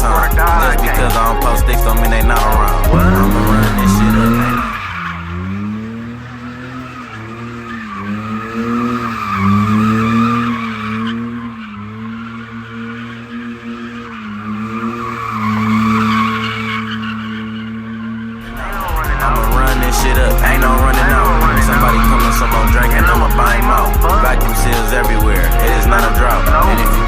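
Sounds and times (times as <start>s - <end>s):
car engine revving high: 0.0s - 27.0s
tyres squealing on pavement: 0.0s - 27.0s.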